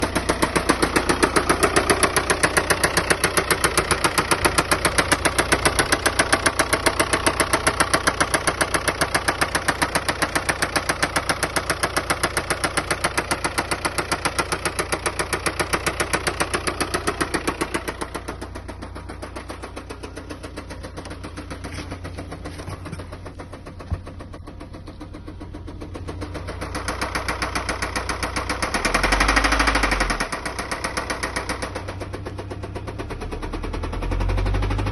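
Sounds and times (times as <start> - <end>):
diesel engine knocking: 0.0 - 34.9.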